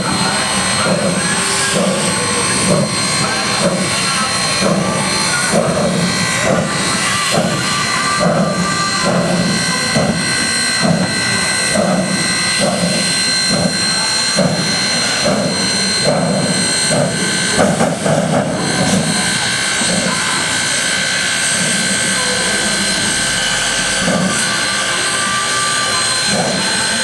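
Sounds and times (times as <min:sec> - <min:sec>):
high whine: 0:00.0 - 0:27.0
slow rhythmic pulse: 0:00.0 - 0:27.0
steam locomotive hissing: 0:00.0 - 0:27.0.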